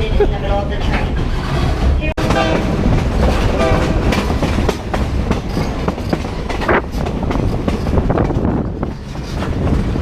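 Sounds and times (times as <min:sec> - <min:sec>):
train car rumbling on track: 0:00.0 - 0:10.0
wheels clacking and rattling: 0:00.2 - 0:10.0.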